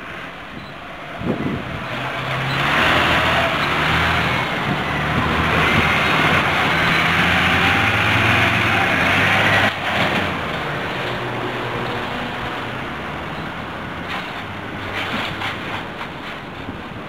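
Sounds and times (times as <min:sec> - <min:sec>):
fire engine diesel driving past: 0:00.0 - 0:16.0.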